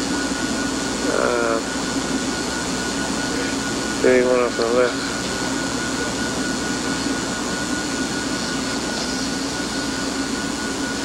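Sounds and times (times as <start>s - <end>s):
steady film hiss: 0.0s - 10.9s
low hum: 0.0s - 11.0s
thin high whine: 0.0s - 11.0s.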